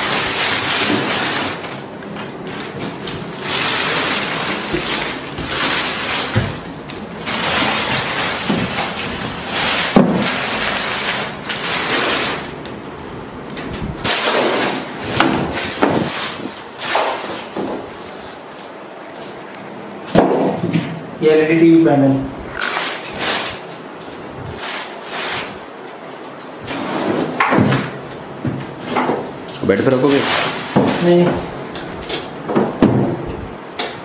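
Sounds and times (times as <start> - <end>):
cardboard and plastic rustling: 0.0 - 21.0, 22.0 - 33.4.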